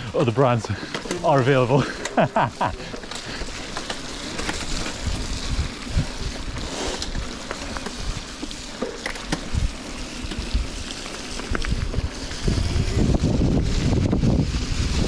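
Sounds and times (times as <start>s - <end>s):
wind buffeting microphone: 0.0s - 8.4s, 9.2s - 15.0s
bike knocks and rattles: 0.0s - 13.1s
tyres rumbling on ground: 0.0s - 14.1s.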